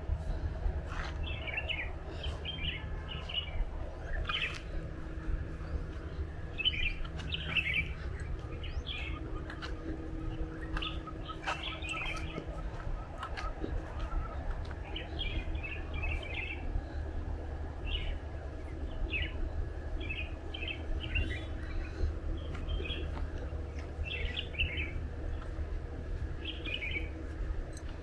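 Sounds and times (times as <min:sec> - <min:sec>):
steady low rumble: 0:00.0 - 0:28.0
small birds chirping: 0:00.2 - 0:28.0.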